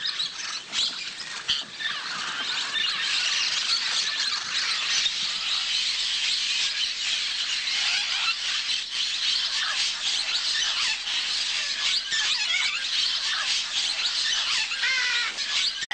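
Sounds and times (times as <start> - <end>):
flock of parrots chattering: 0.0 - 15.9.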